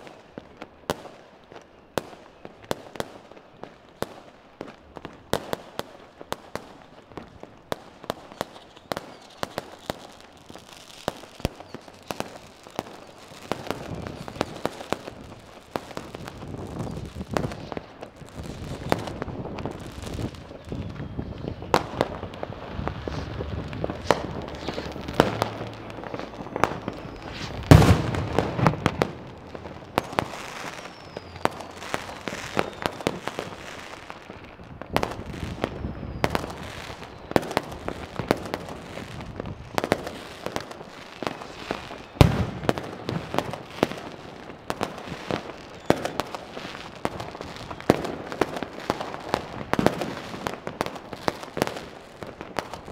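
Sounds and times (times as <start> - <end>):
firecrackers crackling: 0.0 - 52.9
firework bangs: 4.9 - 52.9.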